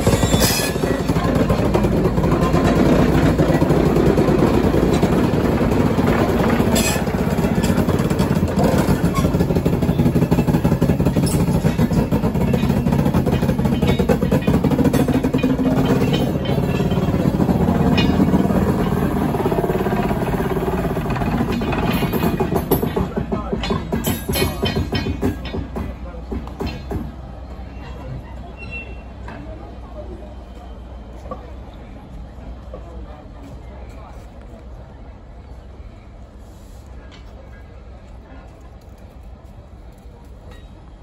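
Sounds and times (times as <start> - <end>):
diesel locomotive engine throbbing: 0.0 - 41.0.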